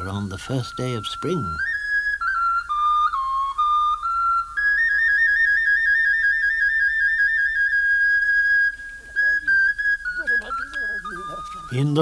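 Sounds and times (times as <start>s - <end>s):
solo flute: 0.0s - 12.0s.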